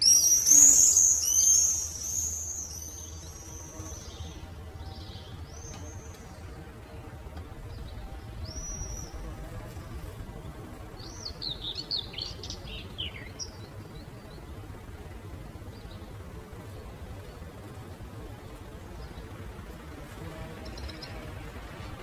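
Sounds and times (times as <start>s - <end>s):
birds calling: 0.0s - 22.0s
low outdoor rumble: 0.0s - 22.0s.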